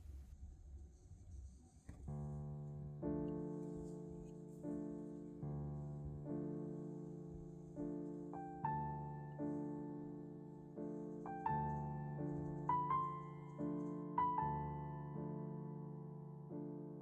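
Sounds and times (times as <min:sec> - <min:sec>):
soft slow piano music: 0:01.9 - 0:17.0.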